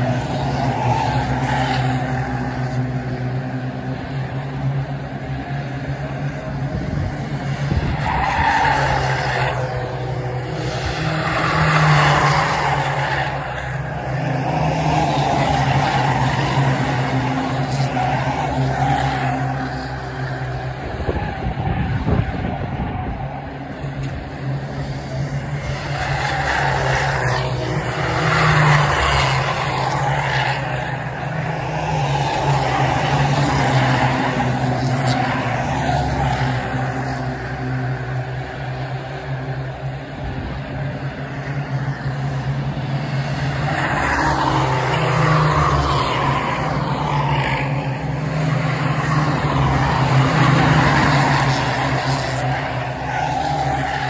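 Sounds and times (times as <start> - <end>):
racing car engines droning: 0.0 - 54.0.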